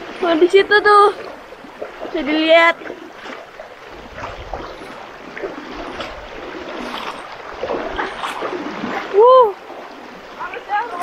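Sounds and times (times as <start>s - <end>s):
river current rushing: 0.0s - 11.0s
splashes from people wading: 0.0s - 11.0s.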